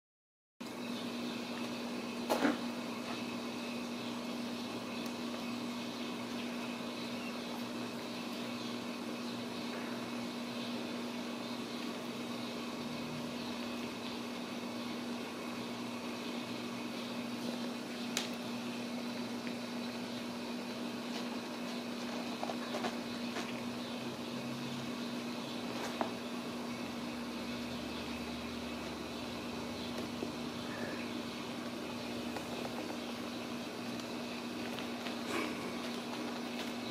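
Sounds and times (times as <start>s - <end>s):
room noise hum and hiss: 0.6s - 36.9s.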